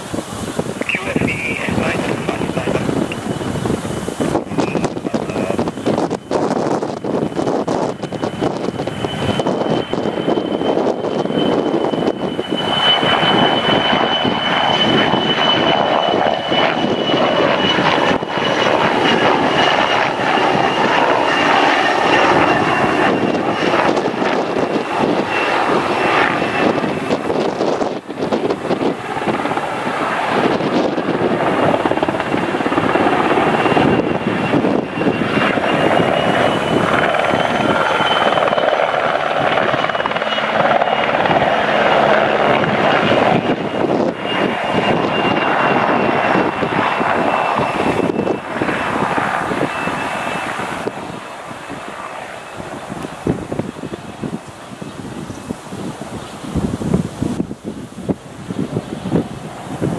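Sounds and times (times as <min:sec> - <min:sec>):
helicopter rotor noise: 0:00.0 - 0:59.9
high turbine engine whine: 0:00.0 - 0:59.9.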